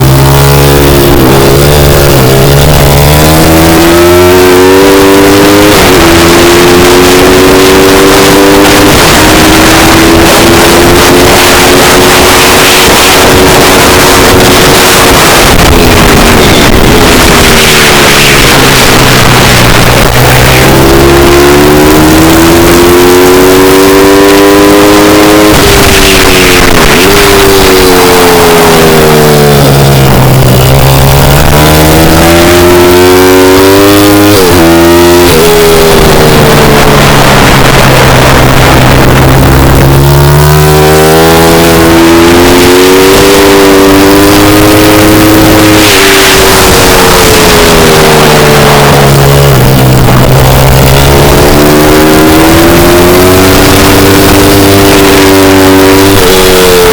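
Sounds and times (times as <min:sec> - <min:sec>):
pit bike engine revving: 0:00.0 - 0:56.9.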